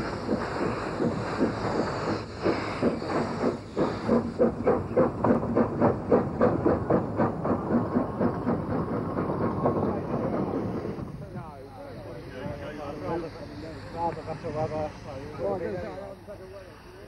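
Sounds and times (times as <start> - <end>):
steam hissing: 0.0 - 17.0
steam locomotive exhaust beats: 0.0 - 17.0.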